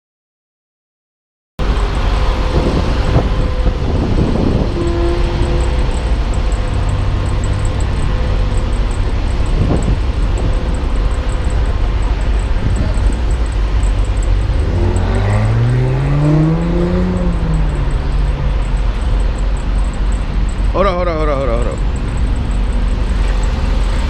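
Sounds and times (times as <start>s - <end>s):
diesel truck engine revving: 1.6s - 24.0s.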